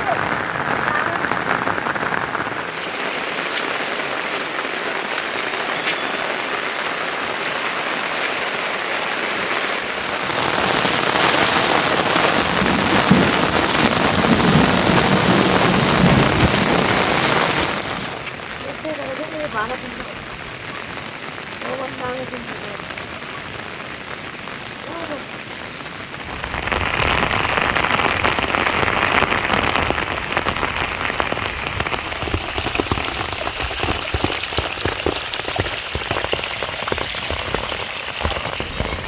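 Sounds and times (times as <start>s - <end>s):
rain pattering on surfaces: 0.0s - 39.0s.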